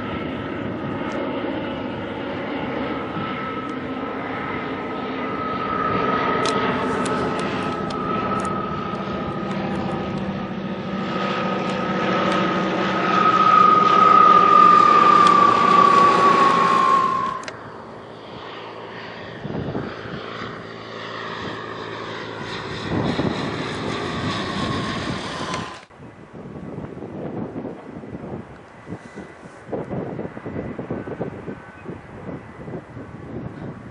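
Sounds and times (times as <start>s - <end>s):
propeller airplane passing by: 0.0s - 33.9s
quiet propeller engine: 0.0s - 33.9s.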